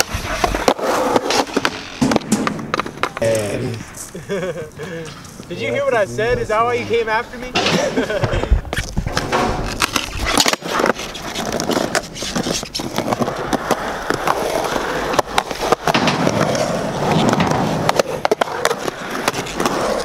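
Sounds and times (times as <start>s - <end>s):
skateboard clacking on concrete: 0.0s - 3.8s, 7.5s - 20.0s
skateboard wheels rolling on concrete: 0.0s - 20.0s.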